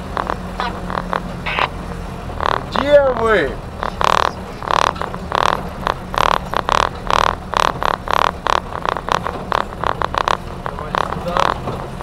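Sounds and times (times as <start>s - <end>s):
rattling bursts: 0.0s - 12.0s
vehicle engine droning: 0.0s - 12.0s.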